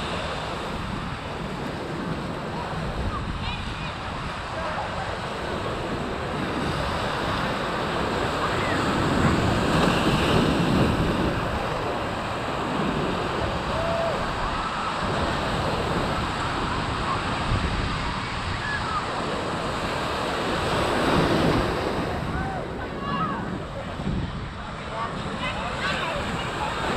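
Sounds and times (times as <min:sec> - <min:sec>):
ocean surf breaking: 0:00.0 - 0:26.9
wind buffeting microphone: 0:00.0 - 0:26.9.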